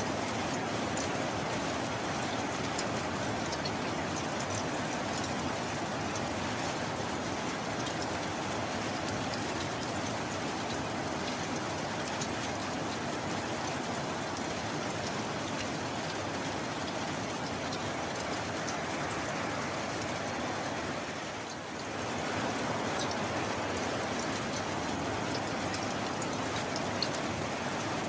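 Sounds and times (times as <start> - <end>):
heavy rain: 0.0 - 28.0
raindrop ticks: 0.1 - 20.8, 21.4 - 28.0.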